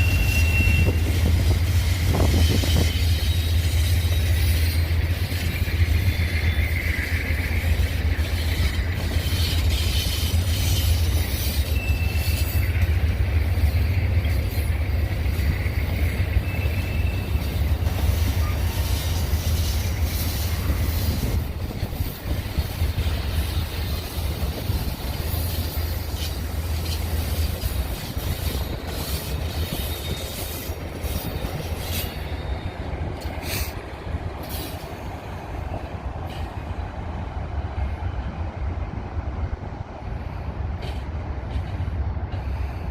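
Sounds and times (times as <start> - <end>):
wheels clicking over rail joints: 0.0 - 35.0
train wheel squeals: 0.0 - 36.8
train rumble: 0.0 - 42.9.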